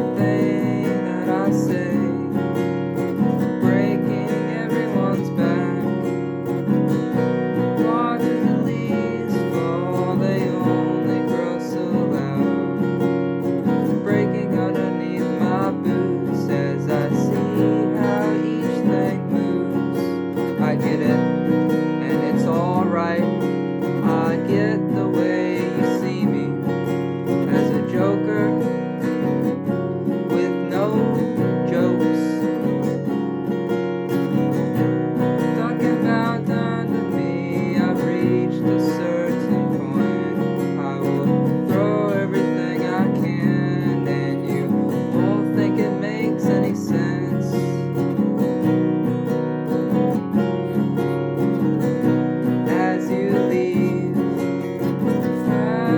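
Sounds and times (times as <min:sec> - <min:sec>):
acoustic guitar strumming: 0:00.0 - 0:55.9.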